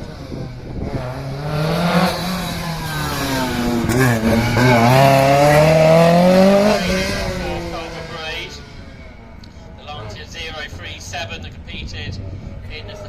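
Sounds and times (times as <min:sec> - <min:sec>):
rally car engine revving: 0:00.0 - 0:11.6.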